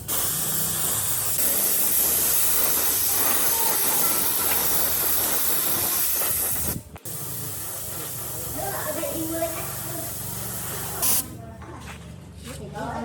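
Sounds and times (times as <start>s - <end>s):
spray hissing: 0.0s - 11.4s.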